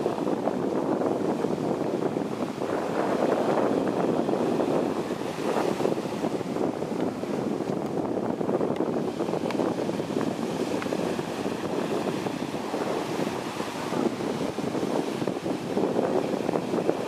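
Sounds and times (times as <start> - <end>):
surf washing over sand: 0.0 - 17.0
wind noise on microphone: 0.0 - 17.0.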